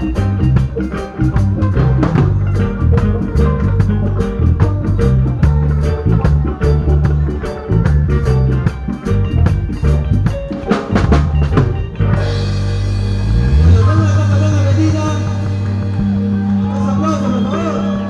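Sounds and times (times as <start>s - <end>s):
drum kit: 0.0s - 18.0s
held chords: 0.0s - 18.0s
pulsing bass line: 0.0s - 18.0s.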